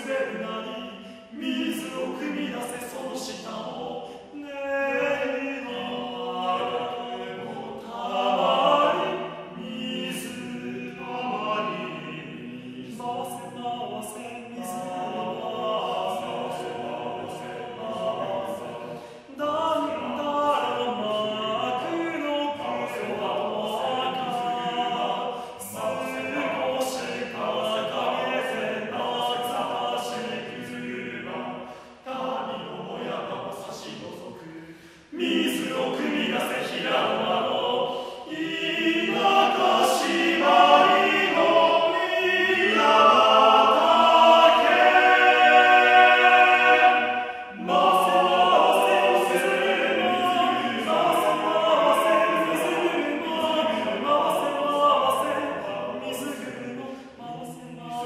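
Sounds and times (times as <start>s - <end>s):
male a cappella choir singing: 0.0s - 58.0s.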